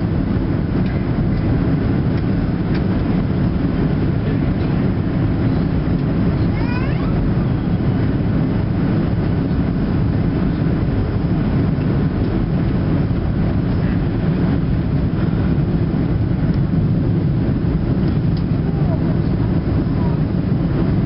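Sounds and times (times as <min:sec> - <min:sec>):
jet engines rumbling: 0:00.0 - 0:21.0
rushing air: 0:00.0 - 0:21.0.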